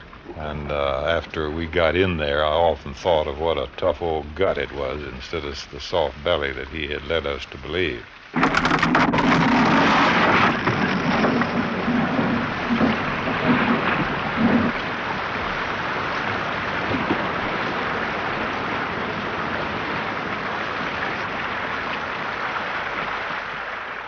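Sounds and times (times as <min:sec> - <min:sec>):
low uneven rumble: 0:00.0 - 0:23.4
heavy rain: 0:00.0 - 0:24.0.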